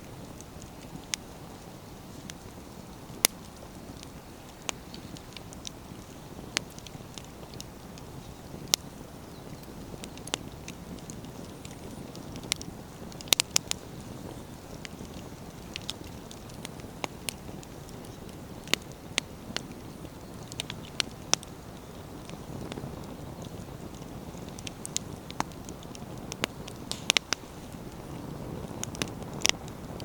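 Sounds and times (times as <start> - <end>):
burning wood crackling and popping: 0.0 - 30.0
flames rustling: 0.0 - 30.0.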